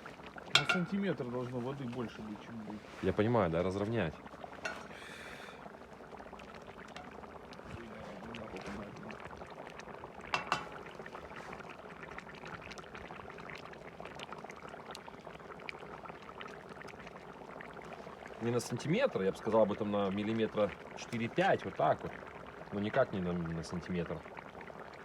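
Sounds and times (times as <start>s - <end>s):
water bubbling and crackling: 0.0s - 25.0s.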